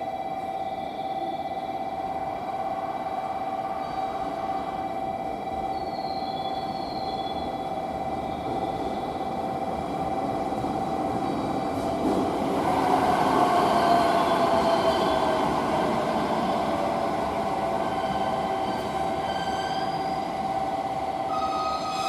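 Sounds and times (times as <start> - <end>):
electric freight train running: 0.0 - 22.0.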